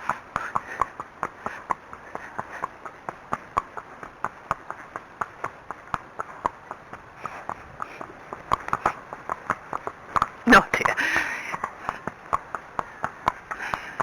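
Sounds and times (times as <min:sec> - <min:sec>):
hooves clip-clopping on hard surface: 0:00.0 - 0:14.0.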